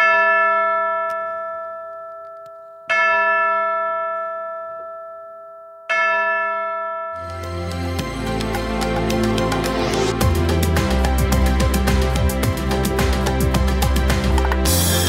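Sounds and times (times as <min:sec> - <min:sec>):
bell ringing: 0:00.0 - 0:13.6.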